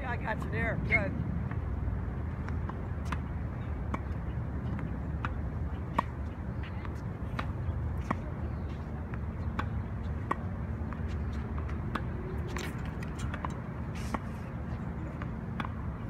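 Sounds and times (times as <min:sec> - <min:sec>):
tennis balls struck and bouncing: 0:01.4 - 0:16.0.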